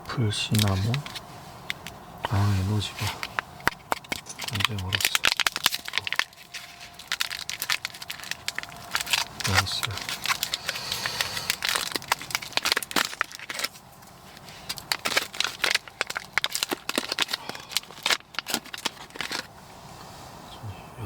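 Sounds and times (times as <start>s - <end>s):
plastic packaging crinkling: 0.5s - 19.6s.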